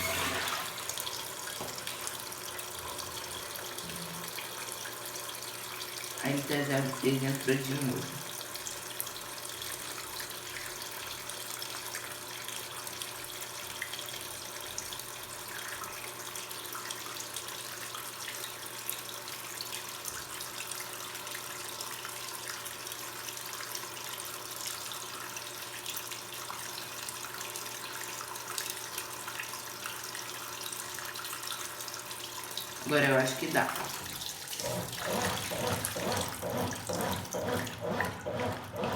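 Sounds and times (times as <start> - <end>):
water running into tub: 0.0 - 12.1, 15.6 - 38.9.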